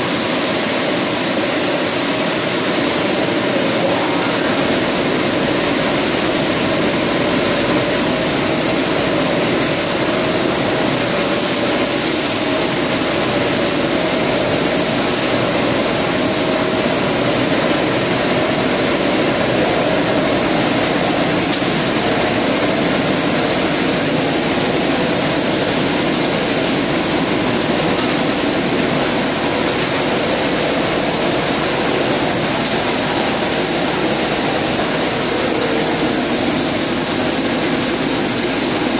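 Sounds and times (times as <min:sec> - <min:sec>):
machine noise with hum tones: 0:00.0 - 0:38.9.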